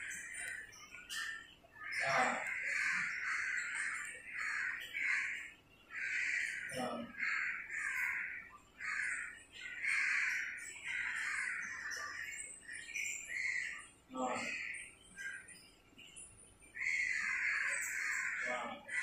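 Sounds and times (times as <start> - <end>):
birds making rough calls: 0.0 - 15.7, 16.7 - 19.0.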